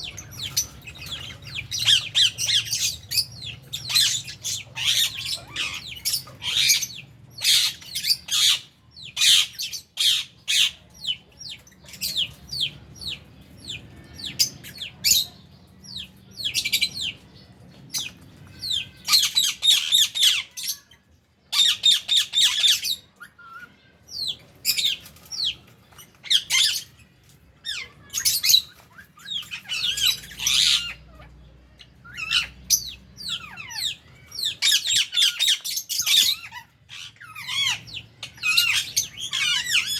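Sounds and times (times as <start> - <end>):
lovebirds squawking and chirping: 0.0 - 39.9.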